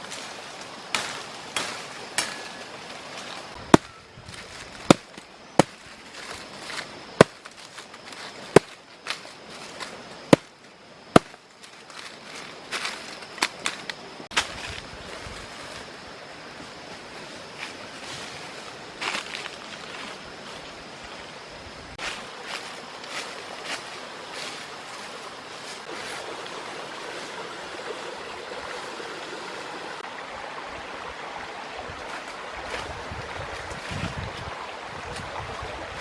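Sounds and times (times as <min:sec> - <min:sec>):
steady background hiss: 0:00.0 - 0:36.0.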